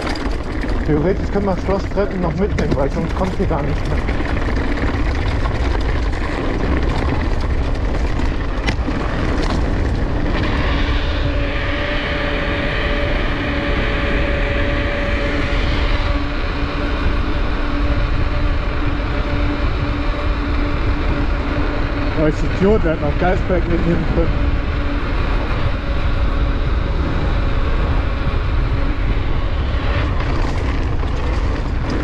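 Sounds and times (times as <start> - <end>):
bike tyres rolling on trail: 0.0 - 32.0
steady hum: 0.0 - 32.0
wind buffeting microphone: 0.0 - 32.0.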